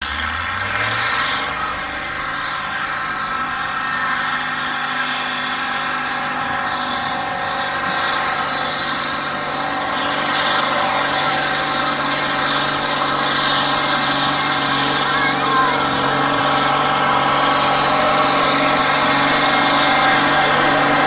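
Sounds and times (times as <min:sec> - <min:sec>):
tractor diesel engine running hard: 0:00.0 - 0:21.0.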